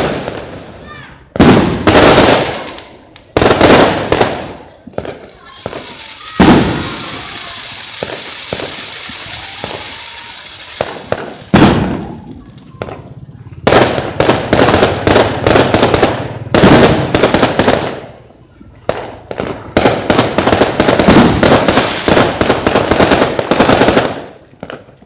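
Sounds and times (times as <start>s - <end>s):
fireworks banging and crackling: 0.0s - 25.0s.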